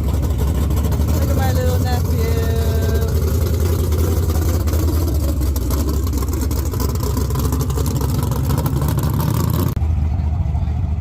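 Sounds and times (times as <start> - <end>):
racing car engine rumbling: 0.0 - 11.0.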